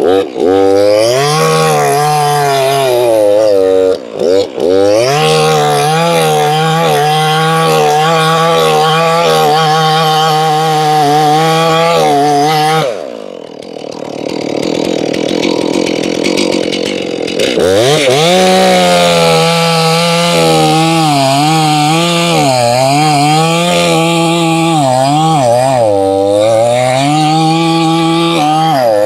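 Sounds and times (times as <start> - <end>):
chainsaw cutting log: 0.0 - 29.0.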